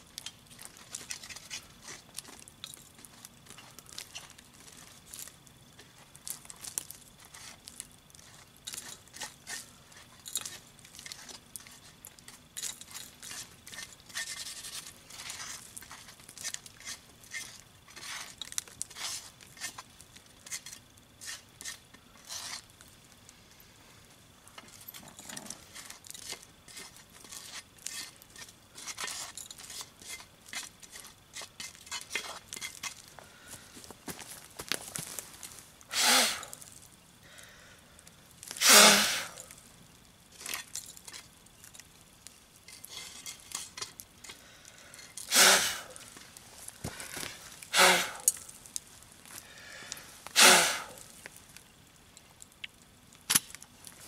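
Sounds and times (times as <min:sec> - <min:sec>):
scraping and crunching embers: 0:00.0 - 0:54.0.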